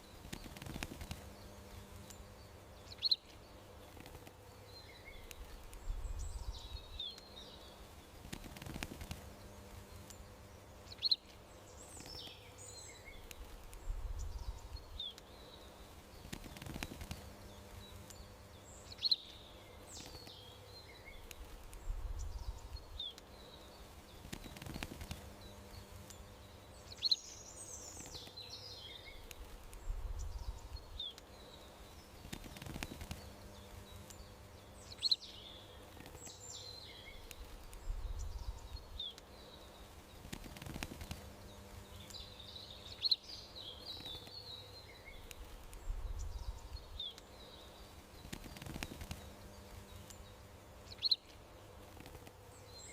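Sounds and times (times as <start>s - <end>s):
faint steady hum: 0.0s - 52.9s
songbirds chirping: 0.0s - 52.9s.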